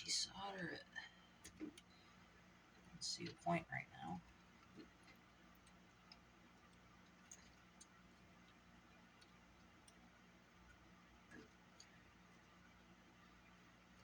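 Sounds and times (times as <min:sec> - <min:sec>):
faint clicks of small parts: 0:01.4 - 0:03.4, 0:04.0 - 0:14.0.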